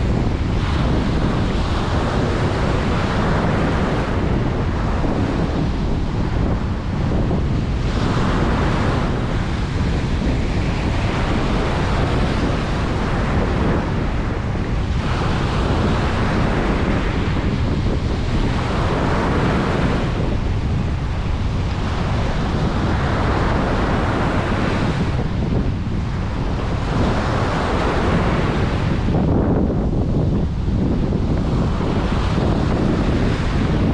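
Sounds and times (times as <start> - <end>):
ocean surf breaking on beach: 0.0 - 33.9
wind rumble on microphone: 0.0 - 33.9.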